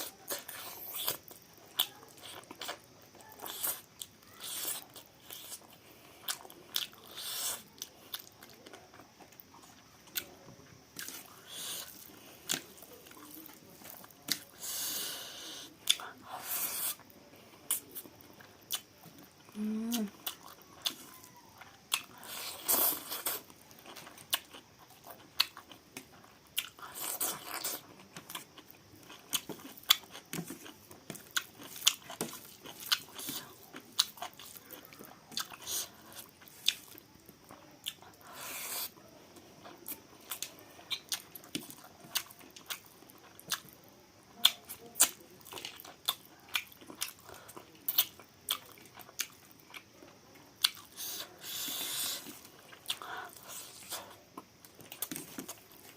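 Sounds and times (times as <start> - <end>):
person chewing chicken: 0.0 - 10.3, 11.0 - 39.0, 39.6 - 43.8, 44.4 - 49.9, 50.6 - 55.9.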